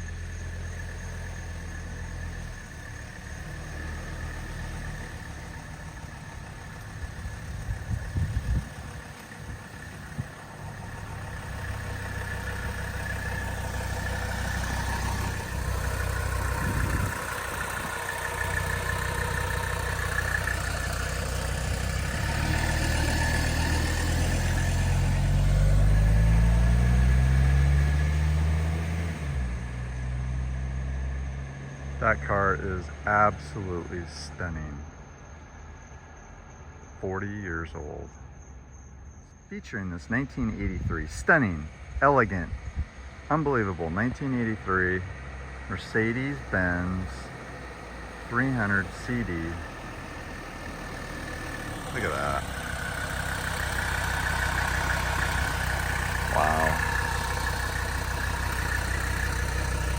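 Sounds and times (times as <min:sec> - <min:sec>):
diesel car engine running: 0:00.0 - 0:59.9.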